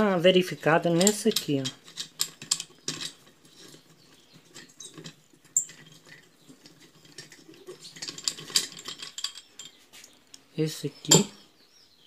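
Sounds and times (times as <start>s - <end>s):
metal parts clicking and scraping: 0.0s - 11.4s.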